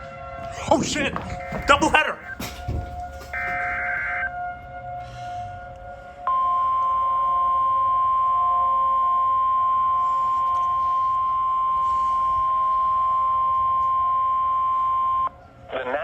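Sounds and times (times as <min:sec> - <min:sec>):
steady warning alarm tone: 0:00.1 - 0:05.1, 0:06.1 - 0:15.4.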